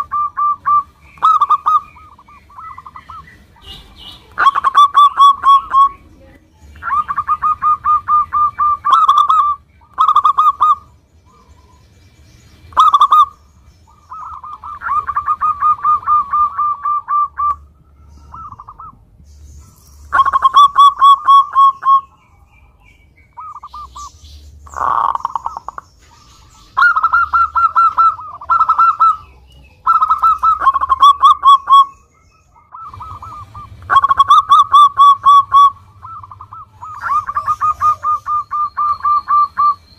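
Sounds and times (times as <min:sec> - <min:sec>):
dove cooing: 0:00.0 - 0:11.8, 0:12.7 - 0:22.8, 0:23.4 - 0:39.9.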